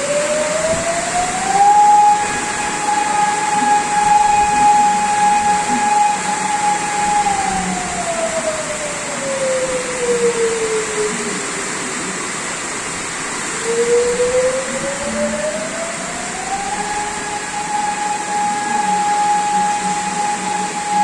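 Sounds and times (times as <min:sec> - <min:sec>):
warning siren wailing: 0:00.0 - 0:12.1, 0:13.0 - 0:21.0
storm rushing: 0:00.0 - 0:21.0.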